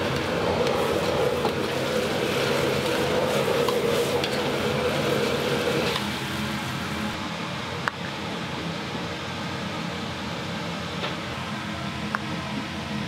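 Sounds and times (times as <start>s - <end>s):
kitchen roar and hiss: 0.0s - 13.0s.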